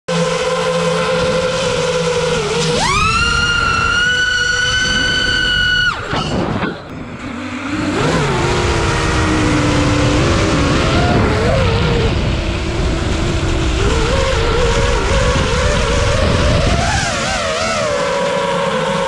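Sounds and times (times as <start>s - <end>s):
drone motors whining: 0.1s - 19.0s
wind noise: 1.0s - 18.1s.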